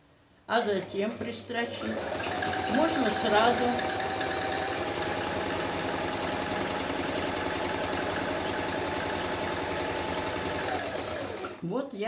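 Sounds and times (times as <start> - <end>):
electric sewing machine running: 0.8 - 11.6.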